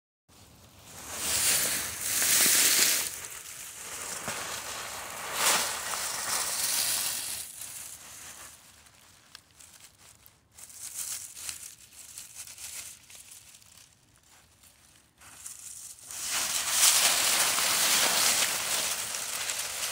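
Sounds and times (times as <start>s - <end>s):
dry leaves crackling and rustling: 0.8s - 19.9s.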